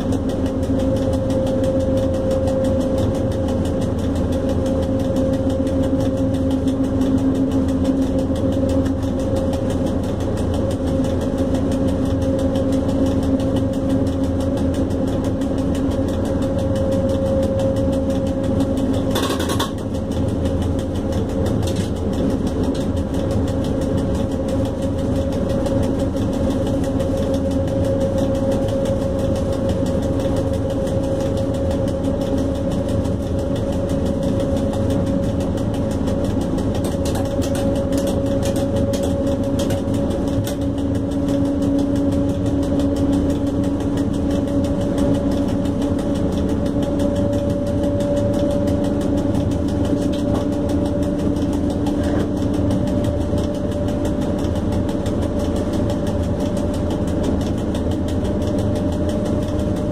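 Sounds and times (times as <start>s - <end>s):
rumbling track noise: 0.0s - 59.9s.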